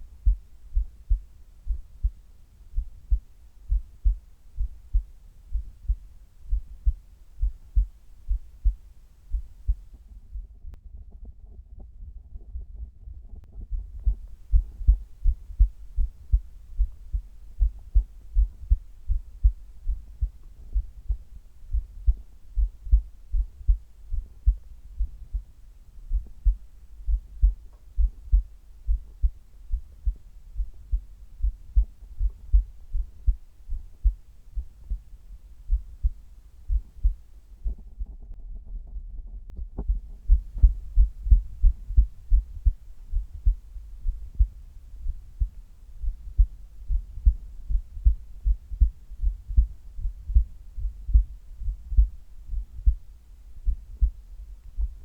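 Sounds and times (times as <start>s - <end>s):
heartbeat thumps: 0.0s - 10.6s, 13.5s - 38.0s, 39.5s - 55.0s.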